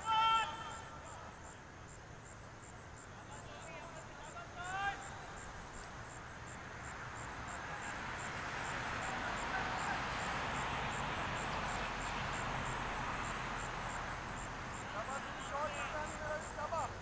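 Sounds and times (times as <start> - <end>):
murmur of distant voices: 0.0 - 17.0.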